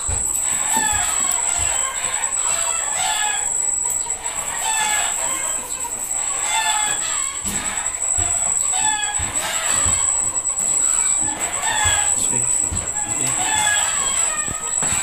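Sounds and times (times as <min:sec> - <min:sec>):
chickens calling: 0:00.0 - 0:15.0
high-pitched whine: 0:00.0 - 0:15.0
rooster crowing: 0:00.0 - 0:15.0.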